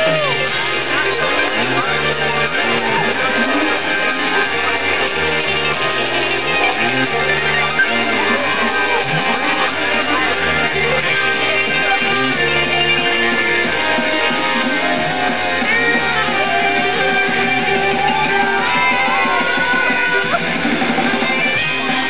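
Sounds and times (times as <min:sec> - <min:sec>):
low bass line: 0:00.0 - 0:22.0
sliding synth melody: 0:00.0 - 0:22.0.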